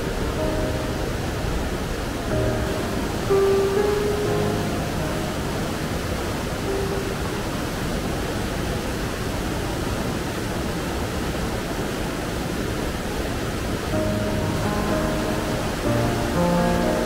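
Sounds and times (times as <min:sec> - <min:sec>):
stream rushing over rapids: 0:00.0 - 0:17.0.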